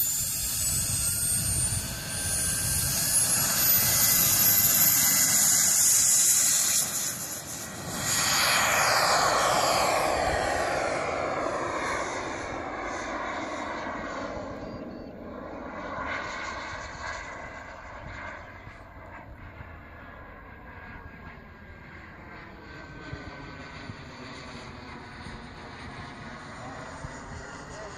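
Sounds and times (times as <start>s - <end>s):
model jet turbine whine: 0.0s - 27.9s.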